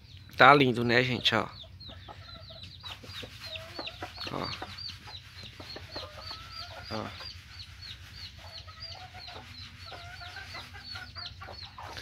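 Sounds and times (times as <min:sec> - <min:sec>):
soft low chick calls: 0:00.0 - 0:12.0
chicks peeping: 0:00.1 - 0:12.0.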